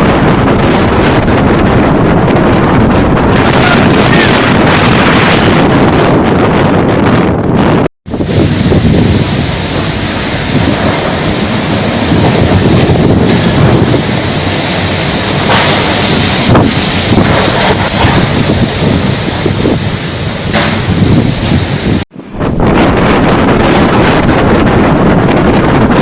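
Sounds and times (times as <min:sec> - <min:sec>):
storm wind on microphone: 0:00.0 - 0:26.0.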